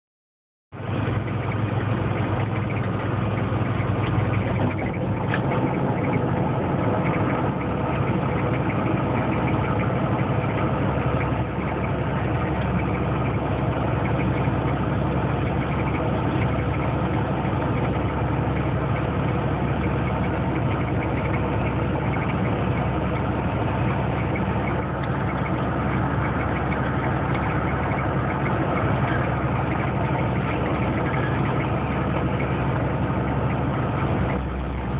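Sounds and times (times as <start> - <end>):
truck engine at highway speed: 0.7 - 34.9.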